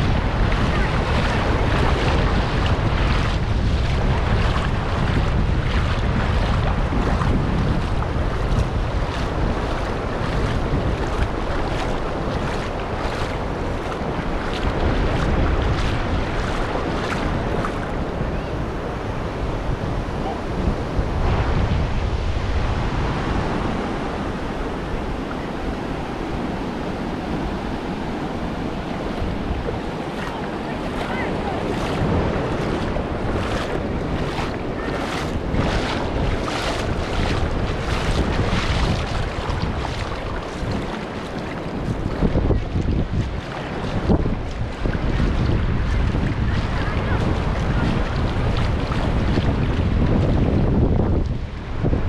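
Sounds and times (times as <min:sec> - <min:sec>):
ocean surf washing onto beach: 0:00.0 - 0:52.0
wind buffeting microphone: 0:00.0 - 0:52.0.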